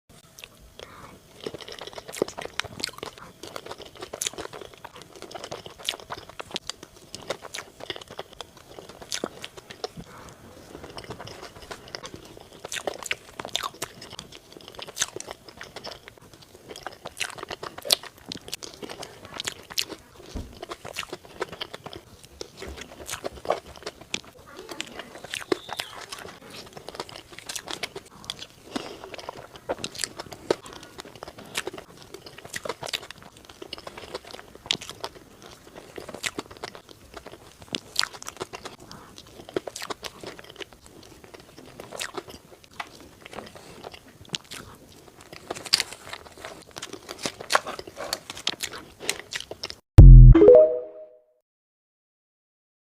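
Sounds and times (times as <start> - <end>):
crunchy food chewing: 0.2 - 49.8.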